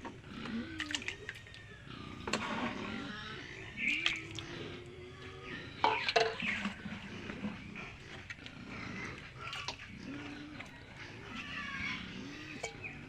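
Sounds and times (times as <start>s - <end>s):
pigs grunting and whining: 0.0s - 13.0s.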